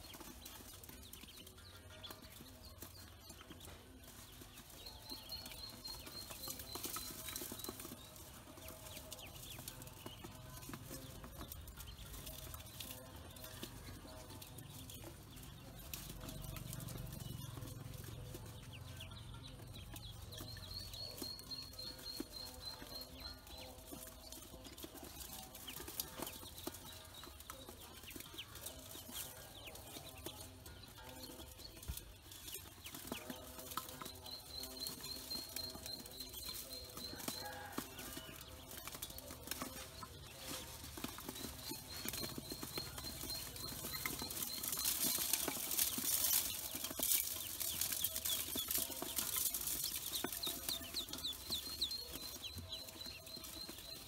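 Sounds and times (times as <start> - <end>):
ducklings peeping: 0.0 - 54.0.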